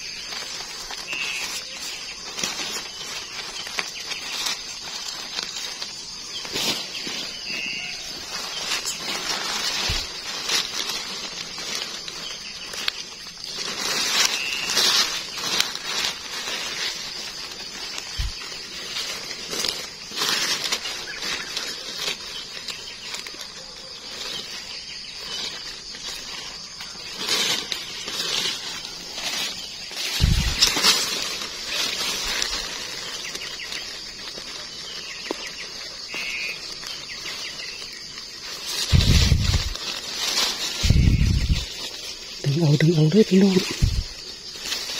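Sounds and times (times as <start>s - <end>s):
leaf litter rustling and crackling: 0.0s - 44.9s.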